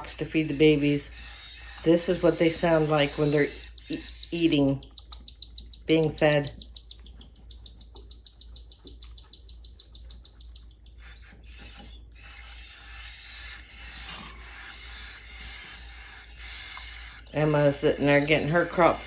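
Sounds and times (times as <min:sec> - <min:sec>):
chicks begging peeps: 0:00.0 - 0:19.0.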